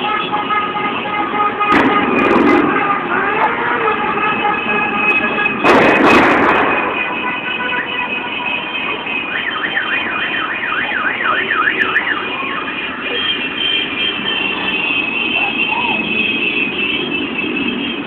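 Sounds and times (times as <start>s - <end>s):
motorcycle and car traffic: 0.0s - 18.0s.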